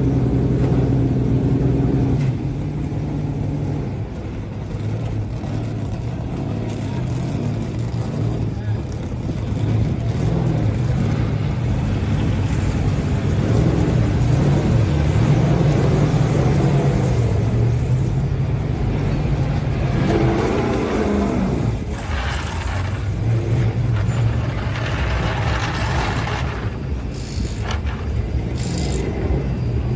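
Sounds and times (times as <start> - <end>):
truck engines droning: 0.0 - 29.9.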